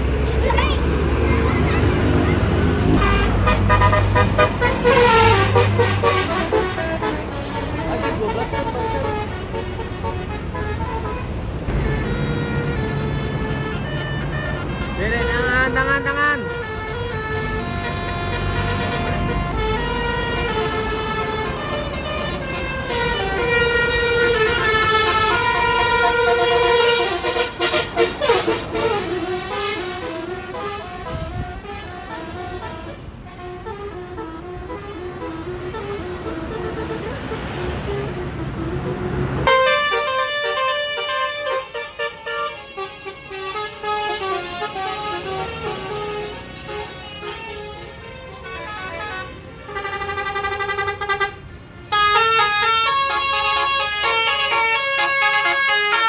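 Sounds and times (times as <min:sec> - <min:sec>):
street noise: 0:00.0 - 0:56.0
musical air horn tune: 0:02.8 - 0:56.0.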